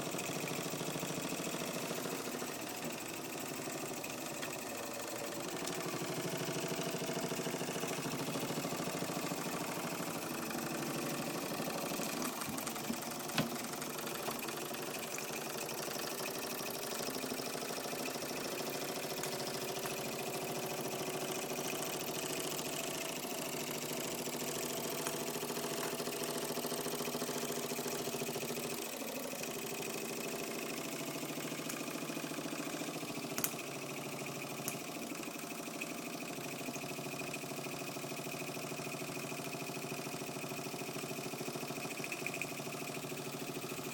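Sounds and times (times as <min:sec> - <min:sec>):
toy steam engine running: 0:00.0 - 0:43.9.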